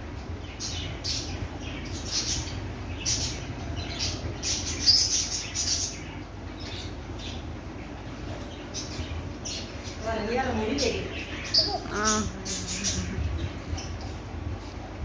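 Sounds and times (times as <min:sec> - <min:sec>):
birds chirping: 0:00.0 - 0:15.0
faint low hum: 0:00.0 - 0:15.0.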